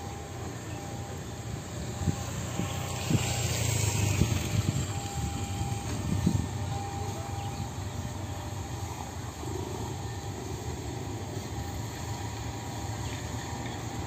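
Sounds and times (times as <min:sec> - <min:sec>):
locomotive engine droning: 0:00.0 - 0:14.0.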